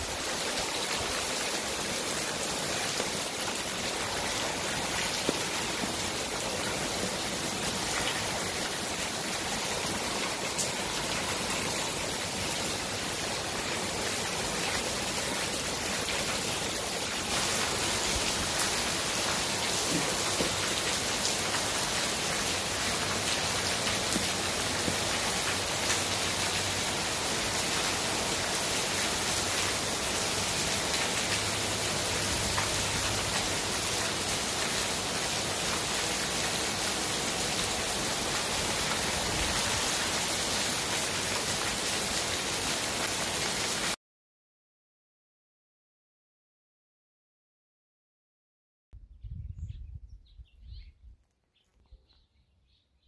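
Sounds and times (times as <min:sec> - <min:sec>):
torrential rain hissing: 0:00.0 - 0:43.9.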